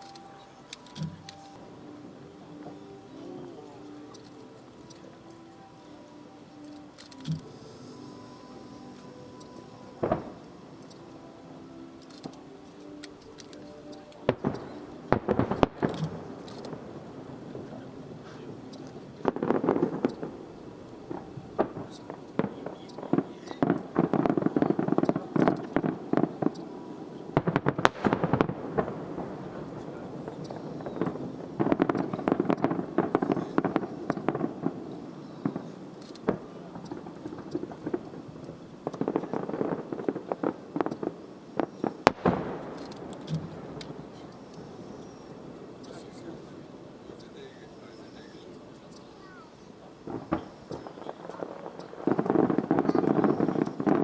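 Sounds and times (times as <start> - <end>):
fireworks crackling: 0.0 - 54.0
loud firework crack: 6.6 - 11.1, 11.9 - 54.0.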